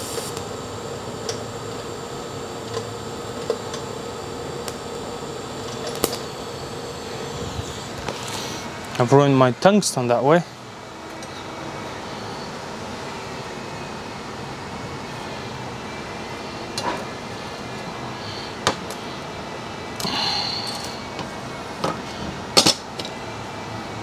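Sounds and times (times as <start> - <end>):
workshop background noise: 2.6 - 12.6, 14.2 - 24.0.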